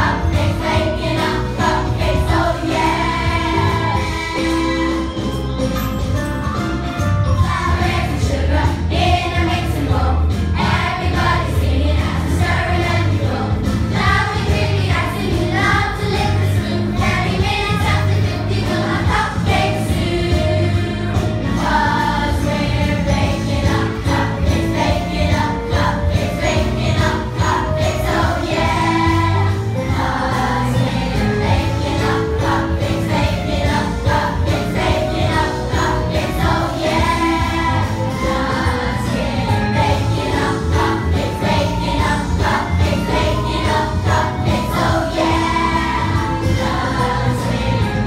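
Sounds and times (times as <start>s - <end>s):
children's choir singing: 0.0s - 5.3s, 7.4s - 48.0s
musical accompaniment with bass: 0.0s - 48.0s.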